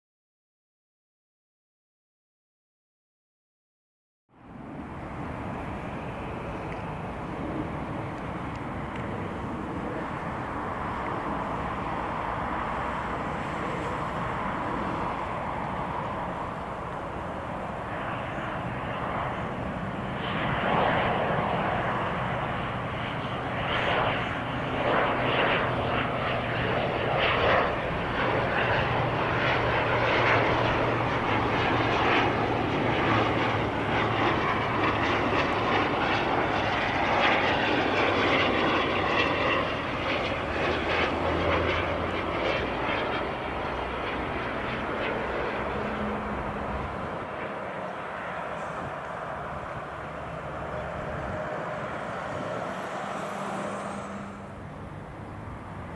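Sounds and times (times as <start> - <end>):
jet engines on approach: 4.3 - 55.9.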